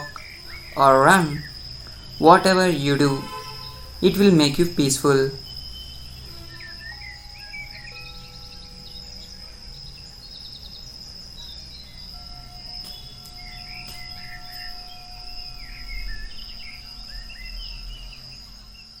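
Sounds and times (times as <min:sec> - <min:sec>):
bird chirps: 0:00.0 - 0:19.0
cricket chorus: 0:00.0 - 0:19.0.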